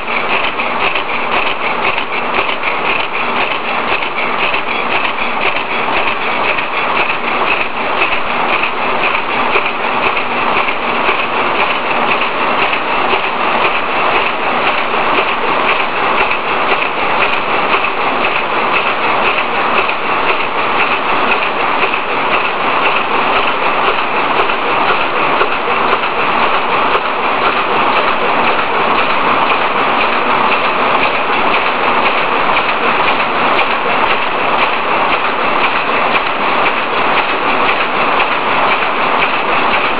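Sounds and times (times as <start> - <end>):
machines clattering and hissing: 0.0 - 39.9.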